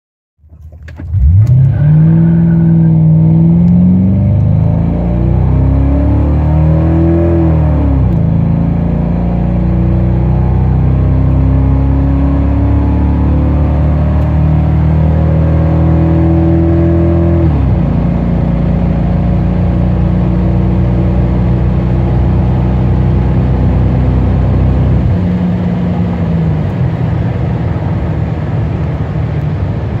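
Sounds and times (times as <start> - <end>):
car engine accelerating hard: 0.9 - 30.0.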